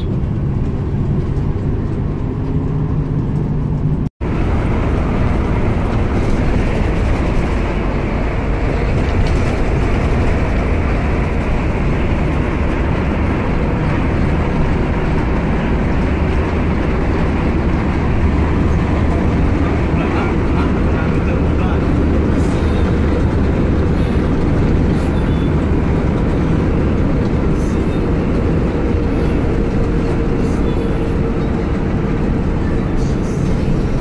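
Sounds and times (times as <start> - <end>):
bus engine and road noise: 0.0 - 34.0.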